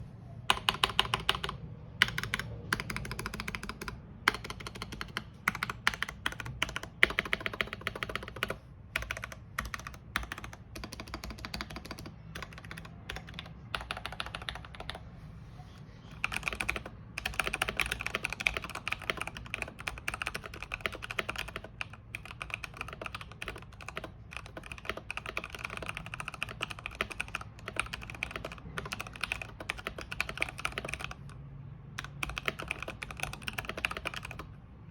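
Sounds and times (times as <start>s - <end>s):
mechanical keyboard typing: 0.5s - 15.1s, 16.1s - 31.4s, 32.0s - 34.6s.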